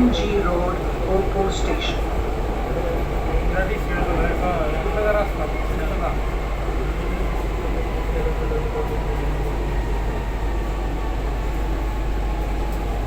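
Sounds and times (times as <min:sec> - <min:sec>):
metro train rumble from inside: 0:00.0 - 0:13.0.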